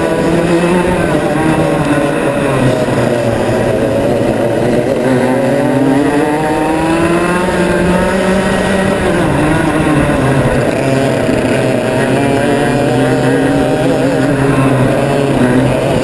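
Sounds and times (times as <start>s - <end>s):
kart engine running: 0.0s - 16.0s.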